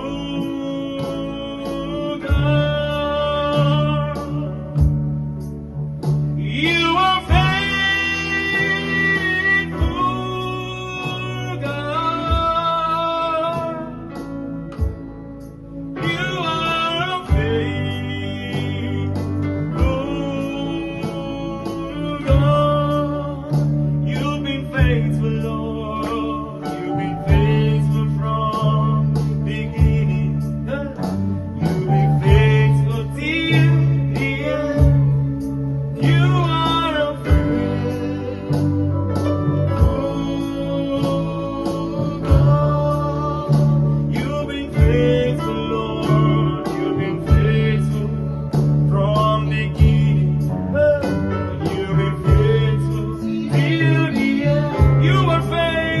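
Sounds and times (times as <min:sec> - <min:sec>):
guitar and bass with beat: 0:00.0 - 0:56.0
person singing worship song: 0:00.0 - 0:56.0.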